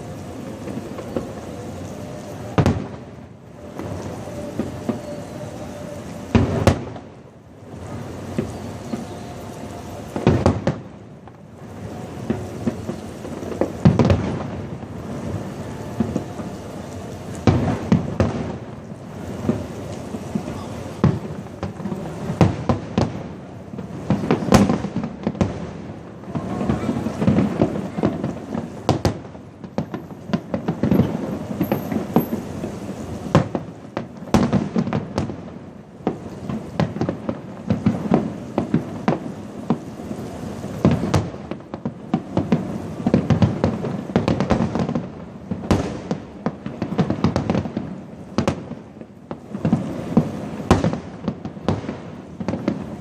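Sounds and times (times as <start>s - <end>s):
fireworks bangs: 0.0s - 53.0s
fireworks crackle: 0.0s - 53.0s.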